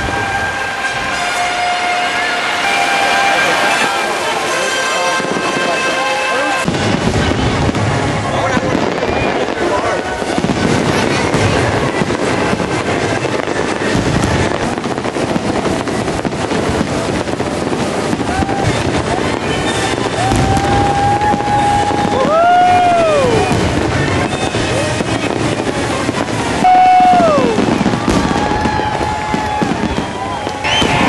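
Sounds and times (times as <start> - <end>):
fireworks crackling and popping: 0.0 - 31.0
whistling firework tones: 0.0 - 31.0.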